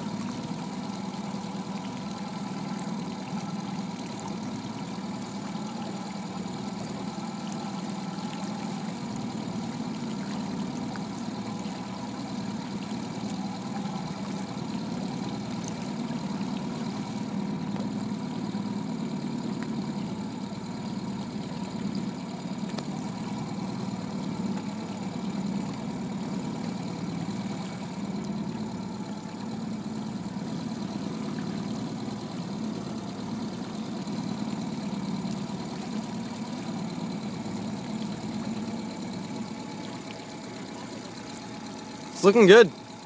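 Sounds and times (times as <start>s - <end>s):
small outboard motor running: 0.0s - 43.0s.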